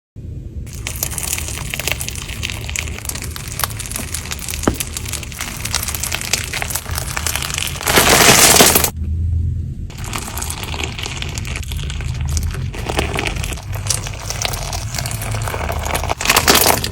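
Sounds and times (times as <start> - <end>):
slime squished by hand: 0.7 - 8.9, 9.9 - 16.9.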